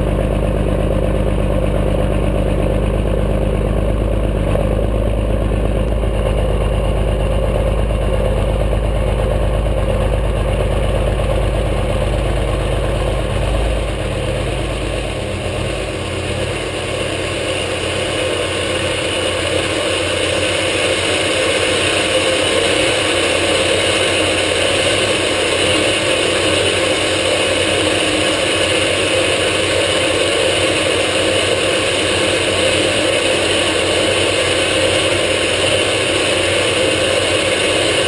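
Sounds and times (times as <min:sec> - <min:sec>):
diesel engine idling with clatter: 0:00.0 - 0:38.0.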